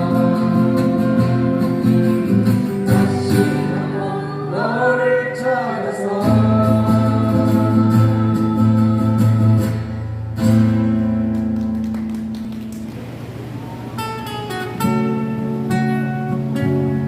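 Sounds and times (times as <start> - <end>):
acoustic guitar strumming and picking: 0.0 - 17.0.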